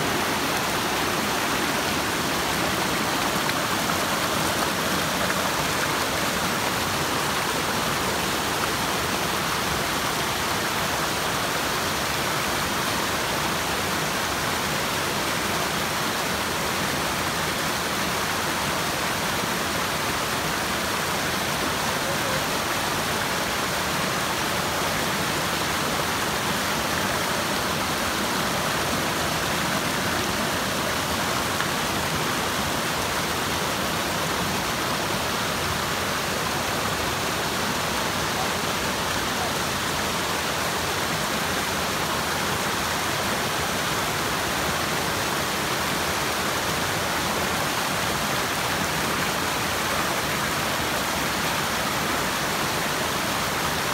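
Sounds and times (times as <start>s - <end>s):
stream cascading over boulders: 0.0s - 53.9s.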